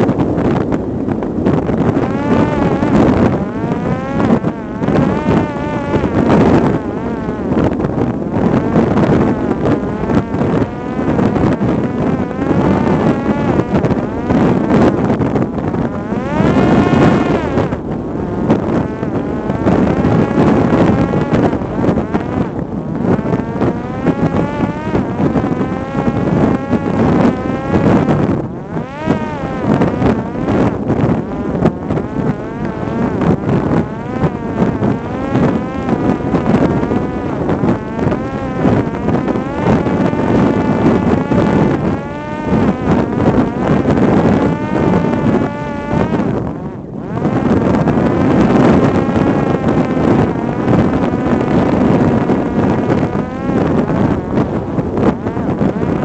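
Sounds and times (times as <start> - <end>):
drone motor and propeller whining: 0.0 - 56.0
wind buffeting microphone: 0.0 - 56.0.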